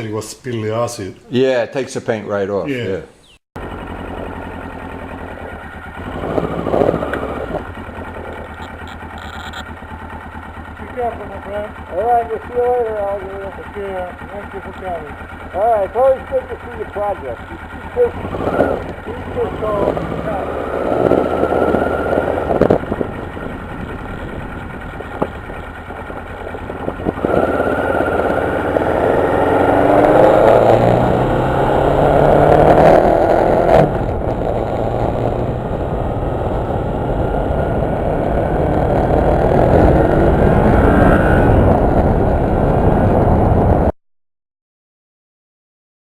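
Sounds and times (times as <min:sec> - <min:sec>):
vehicle engine pulling away: 0:03.6 - 0:43.9.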